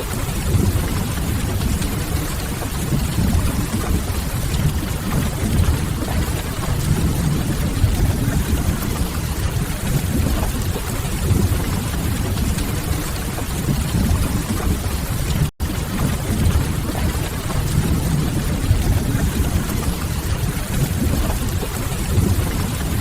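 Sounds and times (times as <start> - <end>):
rain on a window: 0.0 - 23.0.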